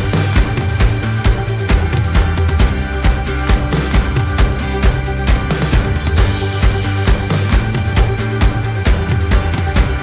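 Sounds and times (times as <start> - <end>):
electronic music with bass beat: 0.0 - 10.0.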